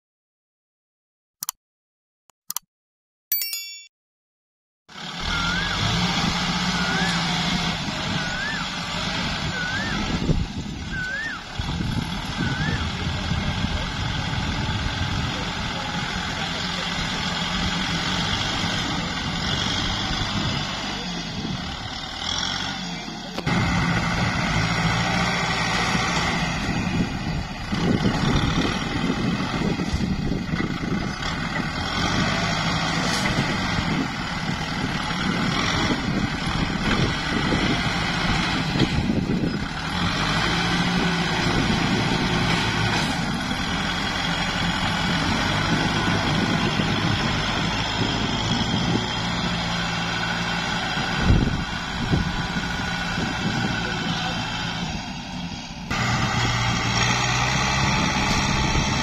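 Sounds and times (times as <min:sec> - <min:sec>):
tractor diesel engine running: 0:04.9 - 0:59.0.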